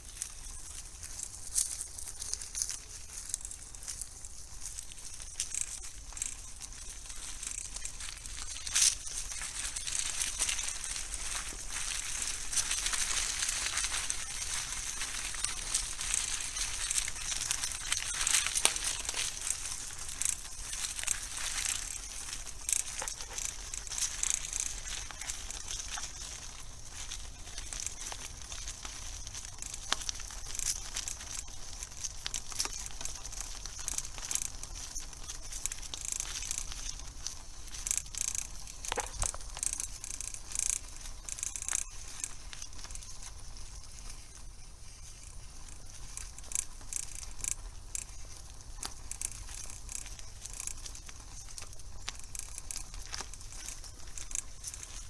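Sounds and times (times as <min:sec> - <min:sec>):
bicycle tyres crunching leaves and gravel: 0:00.0 - 0:55.0.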